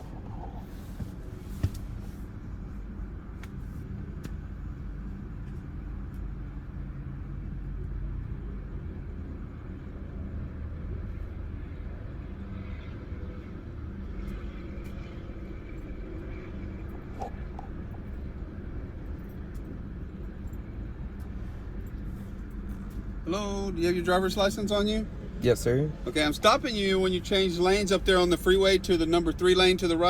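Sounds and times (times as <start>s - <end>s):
low rumble of traffic: 0.0s - 30.0s.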